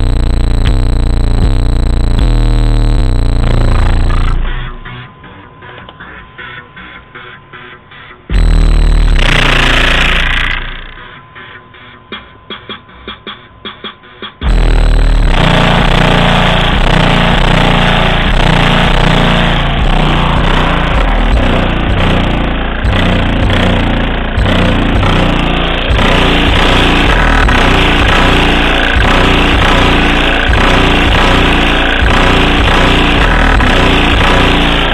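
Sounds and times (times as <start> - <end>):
distorted bass-heavy music: 0.0 - 34.9.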